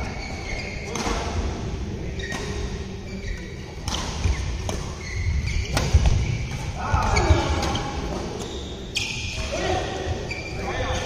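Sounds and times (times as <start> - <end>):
shoe squeaks: 0.0 - 1.0, 2.0 - 11.0.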